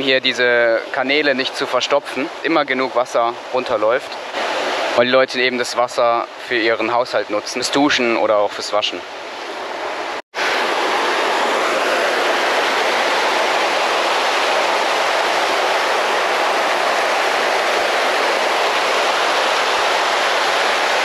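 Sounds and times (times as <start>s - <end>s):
waterfall splashing down rocks: 0.0s - 6.2s, 10.4s - 21.0s.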